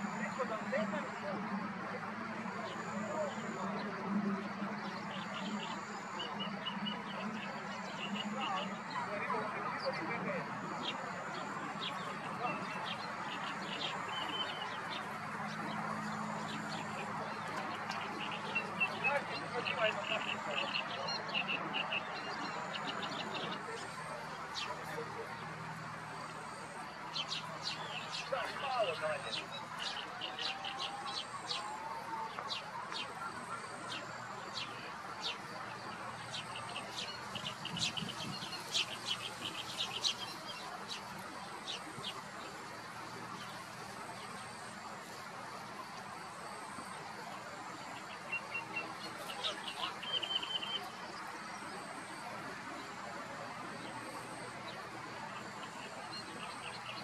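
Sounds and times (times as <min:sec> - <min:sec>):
birds chirping: 0:00.0 - 0:57.0
outdoor background hiss: 0:00.0 - 0:57.0.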